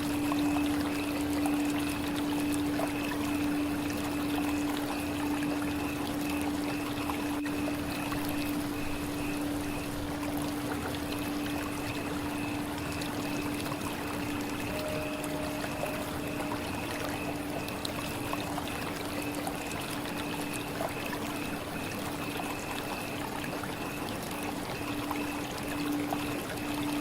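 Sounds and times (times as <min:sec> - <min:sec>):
running water rushing: 0:00.0 - 0:27.0
steady hum: 0:00.0 - 0:27.0.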